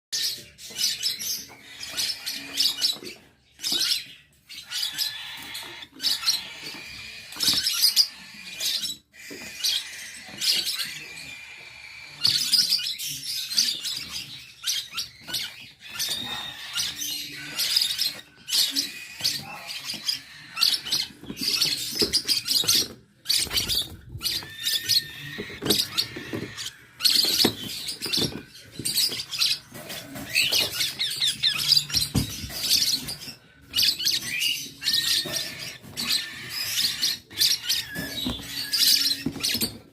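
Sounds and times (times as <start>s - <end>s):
small birds chirping: 0.1s - 39.9s.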